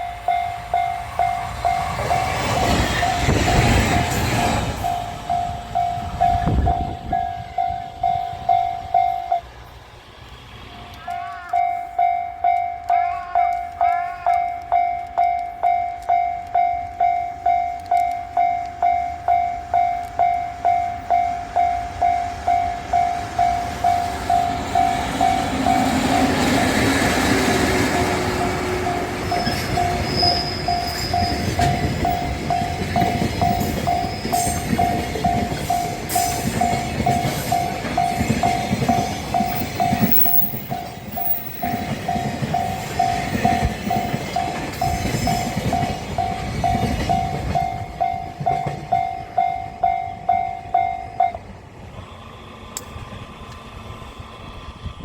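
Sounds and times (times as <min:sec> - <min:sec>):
level crossing warning bell dinging: 0:00.0 - 0:09.7, 0:11.0 - 0:52.0
wheels clacking over rail joints: 0:00.0 - 0:51.6
freight train rumbling: 0:00.0 - 0:55.0.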